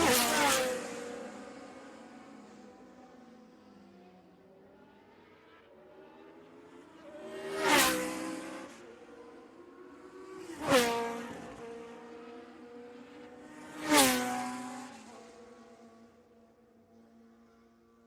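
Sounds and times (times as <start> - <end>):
racing cars passing by: 0.0 - 16.2.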